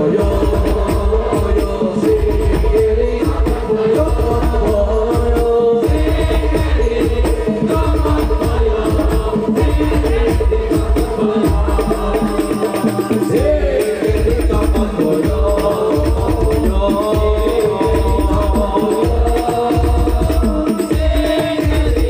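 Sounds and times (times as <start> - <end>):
hand percussion beat: 0.0 - 22.0
men singing devotional song: 0.0 - 22.0.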